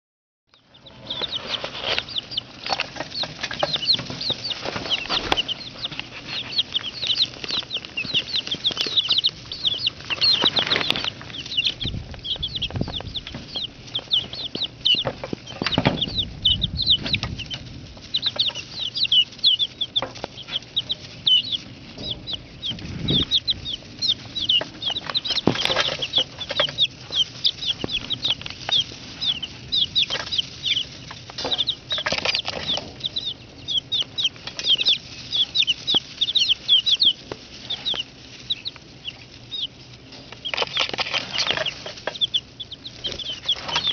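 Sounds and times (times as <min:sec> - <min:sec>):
chicks peeping: 0:00.5 - 0:43.9.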